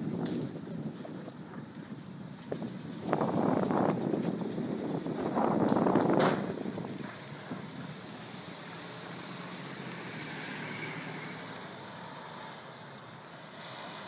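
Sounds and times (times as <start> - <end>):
vehicles driving past: 0.0 - 14.0.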